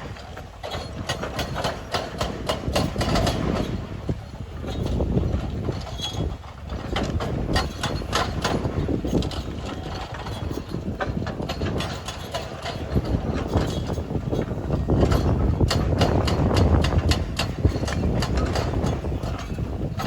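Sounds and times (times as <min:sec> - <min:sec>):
heavy machinery rumbling: 0:00.0 - 0:20.0
irregular clanks and knocks: 0:00.0 - 0:20.0.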